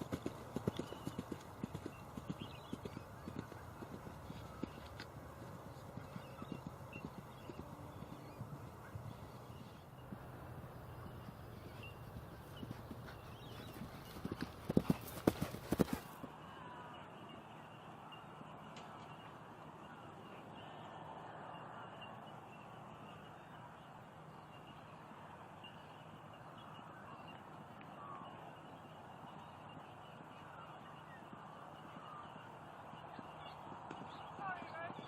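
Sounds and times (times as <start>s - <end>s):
distant bird calls: 0.0s - 16.3s, 21.5s - 35.0s
faint outdoor background noise: 0.0s - 35.0s.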